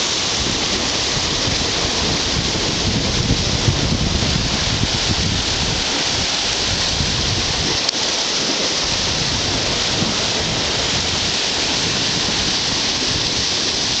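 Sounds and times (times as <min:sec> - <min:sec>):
surf churning over rocks: 0:00.0 - 0:14.0.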